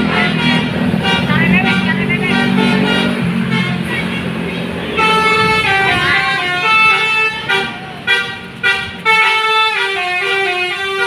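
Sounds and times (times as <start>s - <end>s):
musical bus air horns: 0.0s - 11.0s.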